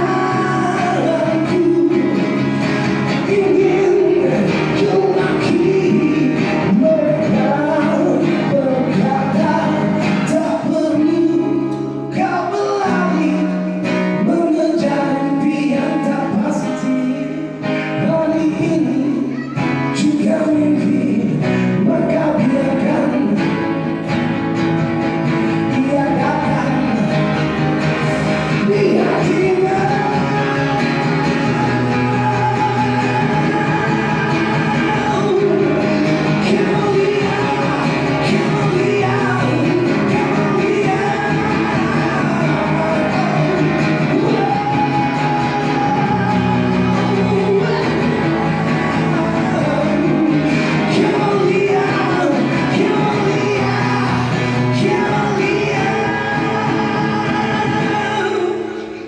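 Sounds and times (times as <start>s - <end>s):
guitar: 0.0s - 59.0s
person singing: 0.0s - 59.0s.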